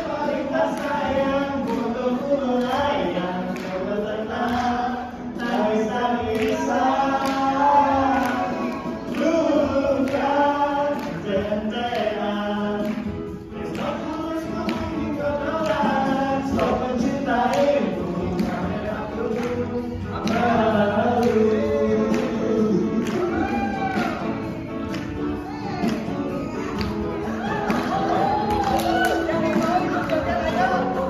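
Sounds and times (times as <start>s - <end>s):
men singing in close harmony: 0.0s - 25.0s, 25.9s - 31.0s.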